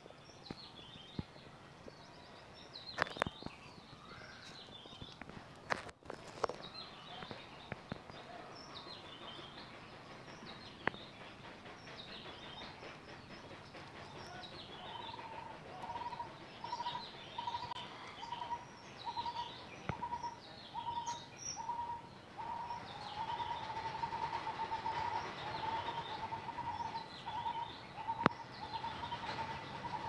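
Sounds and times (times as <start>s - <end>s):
birds chirping and twittering: 0.0s - 30.0s.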